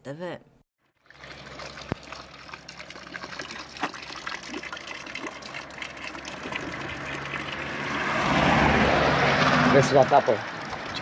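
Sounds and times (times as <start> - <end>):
water splashing into stone basin: 1.0 - 11.0.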